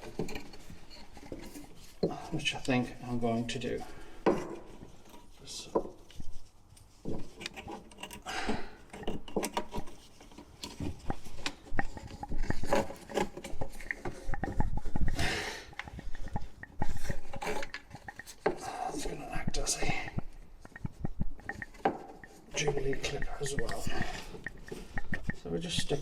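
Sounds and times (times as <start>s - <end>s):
rubbing and scraping on metal: 0.0s - 26.0s.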